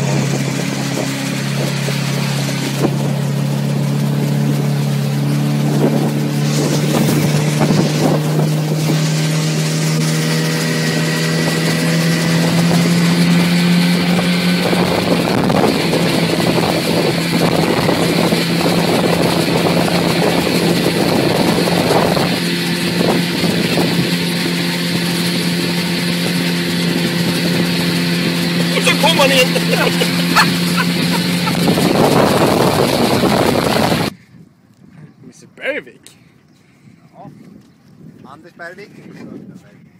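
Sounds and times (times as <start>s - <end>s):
outboard motor drone: 0.0s - 34.2s
rushing wake and air: 0.0s - 34.6s.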